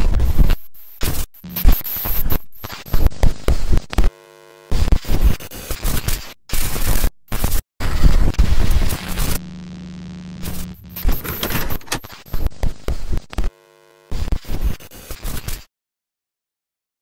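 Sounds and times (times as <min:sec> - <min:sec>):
quieter electronic buzz: 0:00.0 - 0:06.0, 0:06.6 - 0:15.4
electronic static and glitch noise: 0:00.0 - 0:15.7.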